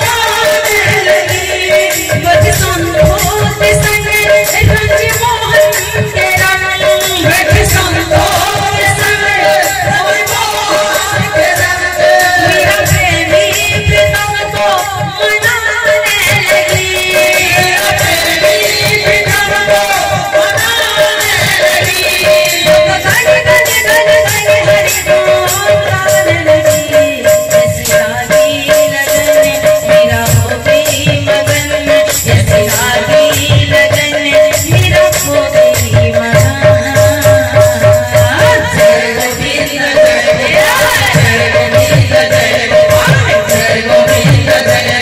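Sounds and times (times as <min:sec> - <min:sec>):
hand drums: 0:00.0 - 0:45.0
woman singing devotional song: 0:00.0 - 0:45.0.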